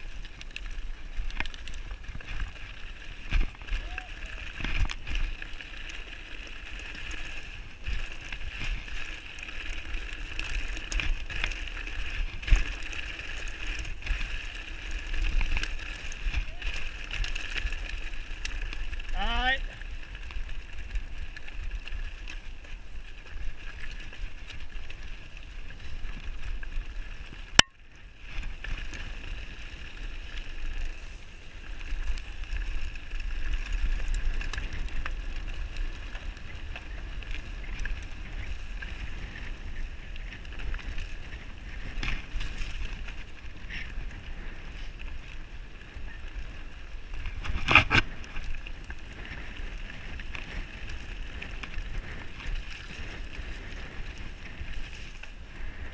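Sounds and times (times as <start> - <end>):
bike frame and drivetrain rattle: 0.0 - 55.9
bike tyres on gravel: 0.0 - 55.9.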